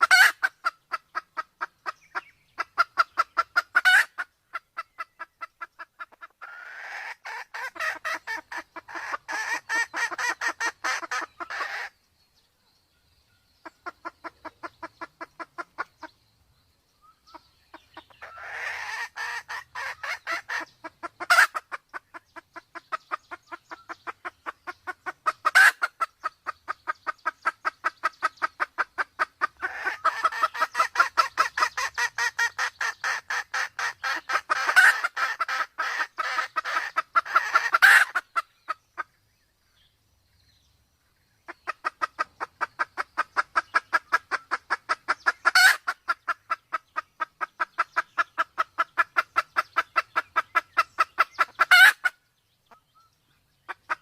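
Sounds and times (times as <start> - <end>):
hens clucking: 0.0 - 12.0, 13.6 - 16.2, 17.3 - 39.1, 41.5 - 52.9, 53.7 - 54.0.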